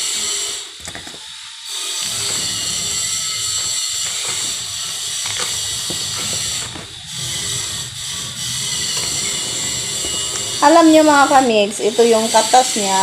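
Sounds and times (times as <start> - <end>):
fruit flesh being scraped: 2.0 - 13.0.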